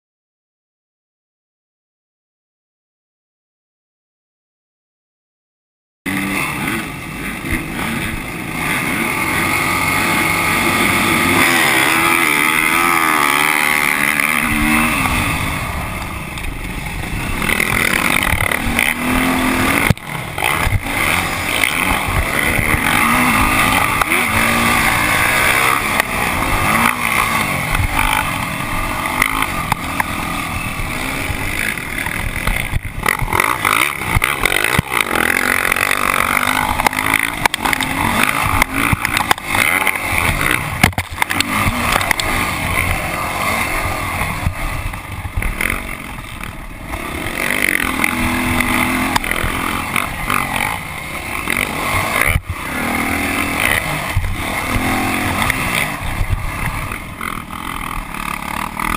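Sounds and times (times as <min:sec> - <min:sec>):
dirt bike engine revving: 0:06.1 - 0:58.9.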